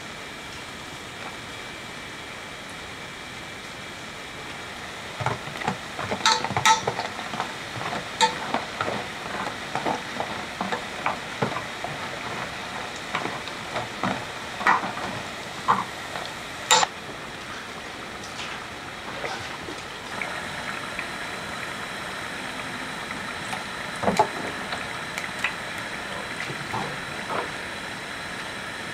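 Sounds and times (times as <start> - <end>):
oil sizzling and bubbling: 0.0 - 28.9.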